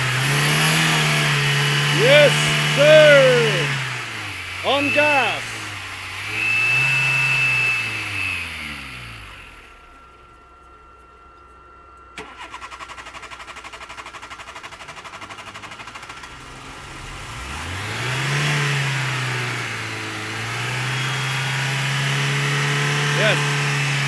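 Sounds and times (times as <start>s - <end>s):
car engine revving and running: 0.0s - 10.4s, 12.2s - 24.0s.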